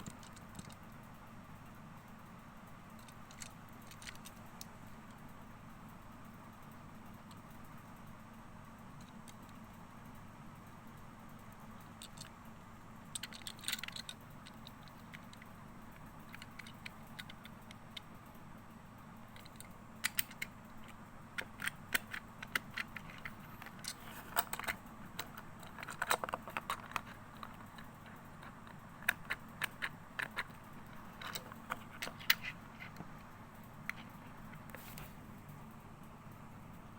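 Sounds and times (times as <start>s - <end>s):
sharp clicks and light rattles: 0.0s - 36.9s
steady low hum: 0.0s - 36.9s.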